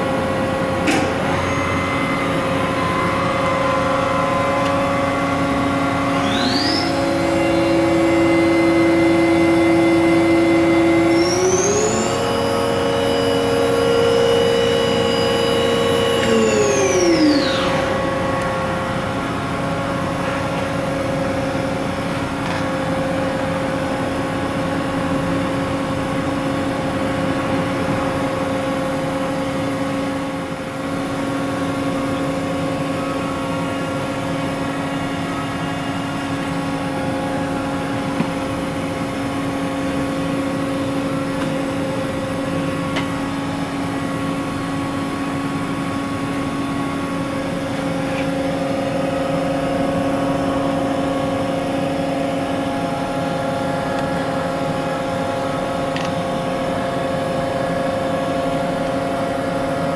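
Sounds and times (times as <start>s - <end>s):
machine spindle hum and whine: 0.0s - 59.9s.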